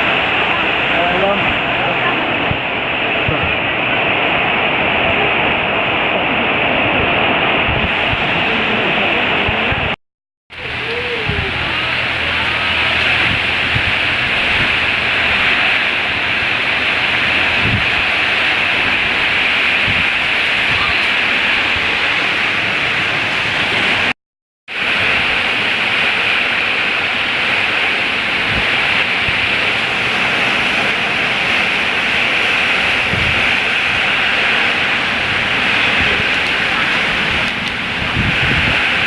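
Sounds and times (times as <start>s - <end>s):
heavy rain in strong wind: 0.0s - 39.0s.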